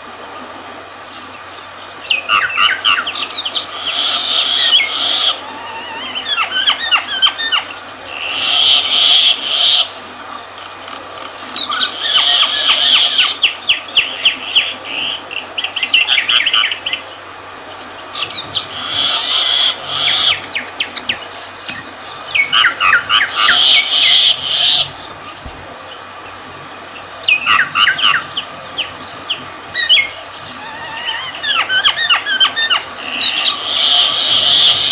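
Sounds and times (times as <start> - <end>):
myna calling: 2.1 - 10.0, 11.1 - 17.0, 18.0 - 26.0, 26.8 - 34.9.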